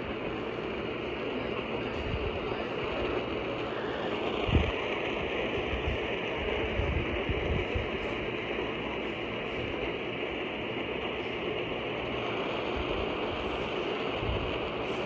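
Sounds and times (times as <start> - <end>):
steady rushing hiss: 0.0 - 15.0.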